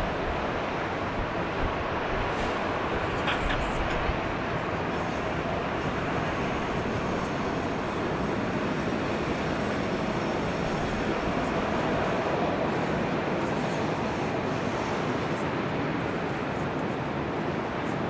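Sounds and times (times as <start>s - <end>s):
moving train rumble: 0.0s - 18.0s.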